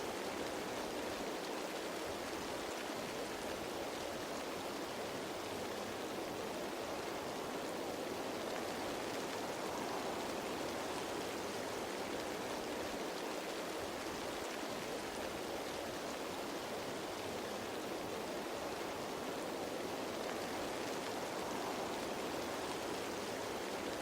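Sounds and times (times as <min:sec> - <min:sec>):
rain falling on leaves: 0:00.0 - 0:24.0.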